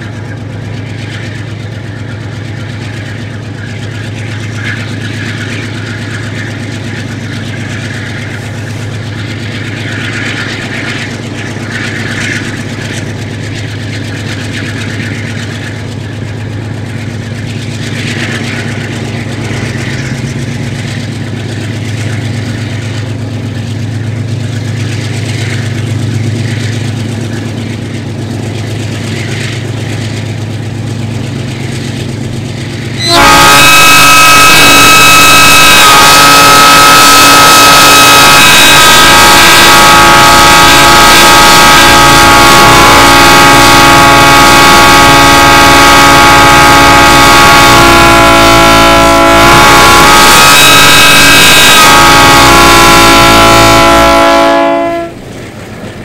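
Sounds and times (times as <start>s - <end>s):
diesel locomotive engine droning: 0.0s - 56.0s
wheel and track noise: 0.0s - 56.0s.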